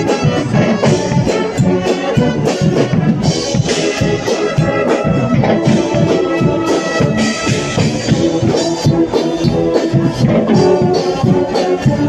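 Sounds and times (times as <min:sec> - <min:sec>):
bass drum and drums beat: 0:00.0 - 0:12.0
trumpets and trombones blaring: 0:00.0 - 0:12.0.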